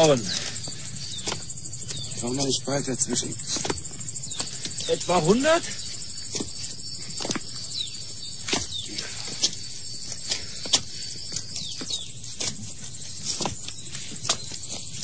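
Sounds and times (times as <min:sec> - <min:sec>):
crickets chirping: 0:00.0 - 0:15.0
footsteps on stone steps: 0:00.0 - 0:15.0.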